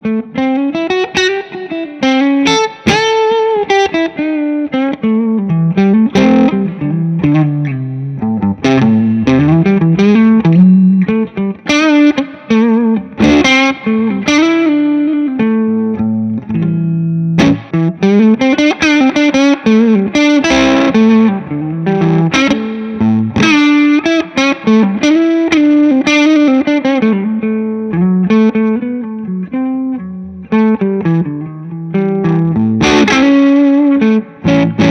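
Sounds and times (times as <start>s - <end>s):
electric guitar chords: 0.0s - 34.9s
electric guitar lead lines: 0.0s - 34.9s.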